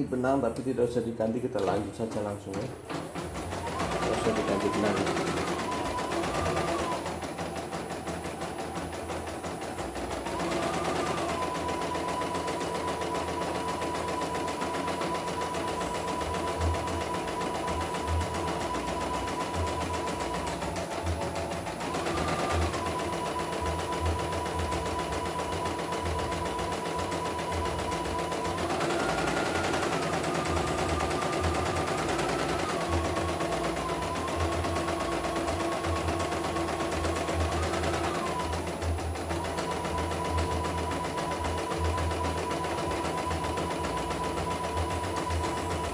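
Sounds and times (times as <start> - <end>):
embroidery machine needle chatter: 0.0 - 45.9
machine motor whine: 1.6 - 45.9.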